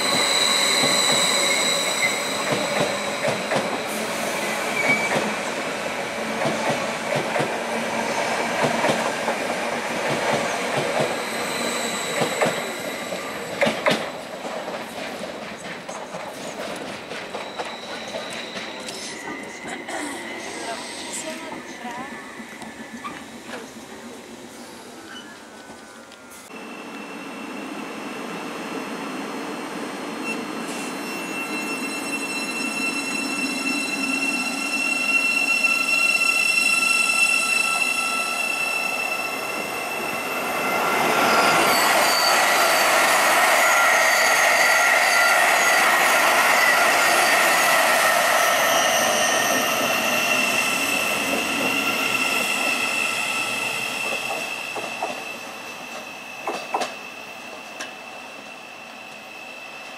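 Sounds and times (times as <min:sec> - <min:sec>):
electric train whine: 0:00.0 - 0:59.9.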